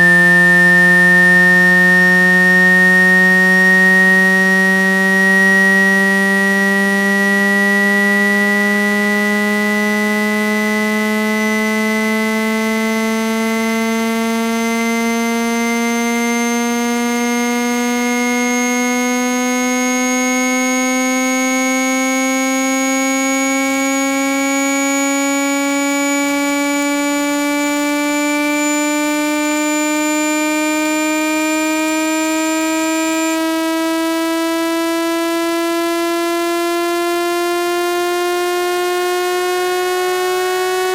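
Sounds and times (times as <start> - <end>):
rising buzzy synthesized tone: 0.0 - 40.9.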